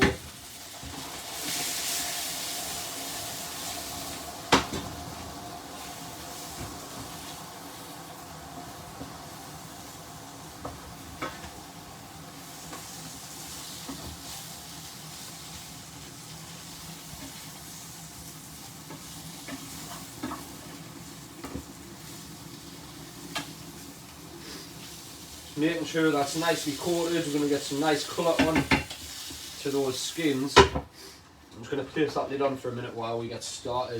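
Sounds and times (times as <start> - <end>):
chicken sizzling in a frying pan: 0.0 - 31.2.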